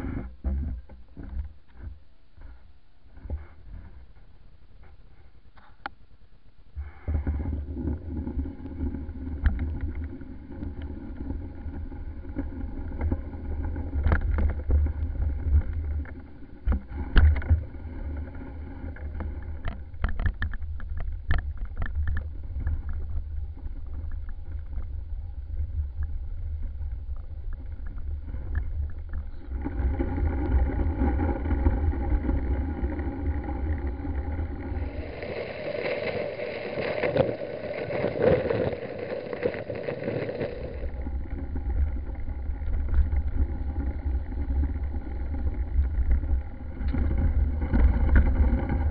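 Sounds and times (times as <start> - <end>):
wind rumble on microphone: 6.8 - 48.9.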